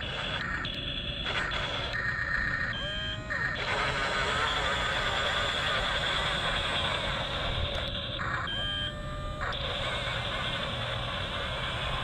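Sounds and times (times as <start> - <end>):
toy bulldozer motor whine: 0.0 - 12.0.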